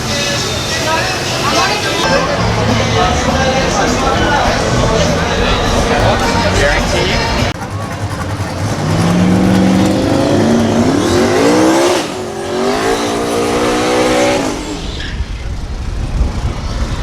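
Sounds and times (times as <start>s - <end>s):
truck engine accelerating: 0.0s - 17.0s.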